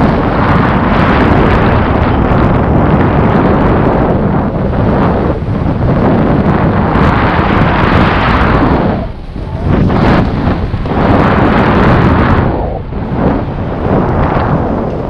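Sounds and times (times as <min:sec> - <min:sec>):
snowboard scraping over snow: 0:00.0 - 0:15.0
wind buffeting microphone: 0:00.0 - 0:15.0.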